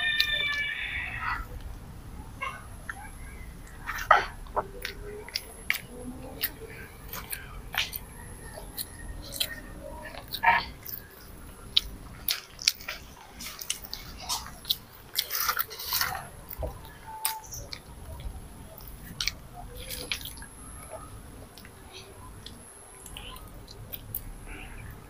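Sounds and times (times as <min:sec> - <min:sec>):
child chewing and lip smacking: 0:00.0 - 0:01.8, 0:02.4 - 0:25.0.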